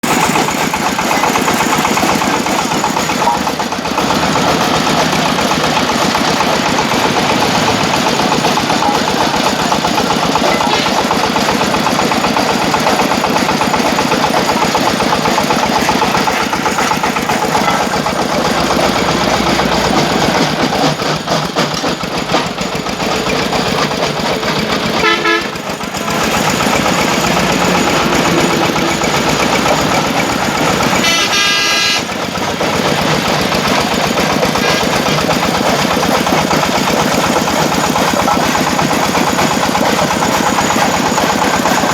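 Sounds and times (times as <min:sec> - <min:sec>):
brick-breaking machine clattering: 0:00.0 - 0:41.9.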